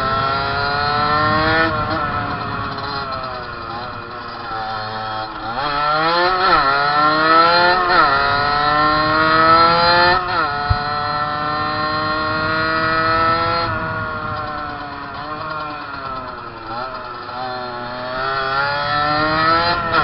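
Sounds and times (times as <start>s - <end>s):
motorcycle engine at full throttle: 0.0s - 20.0s.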